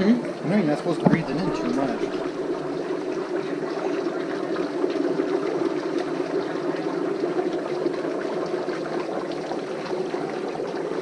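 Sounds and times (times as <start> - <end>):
dry ice bubbling in water: 0.0 - 11.0.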